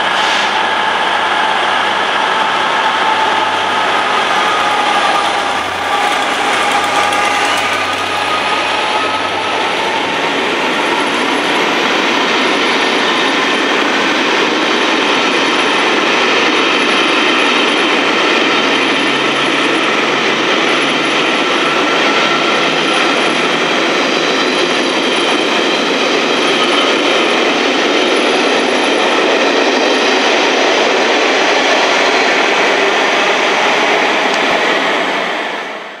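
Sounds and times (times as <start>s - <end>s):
train coaches rolling past: 0.0s - 36.0s.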